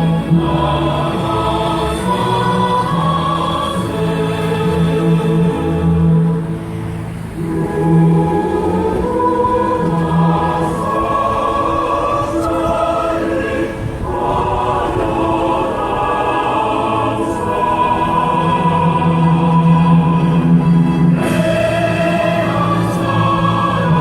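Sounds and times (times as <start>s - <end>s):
choir singing long notes: 0.0s - 24.0s.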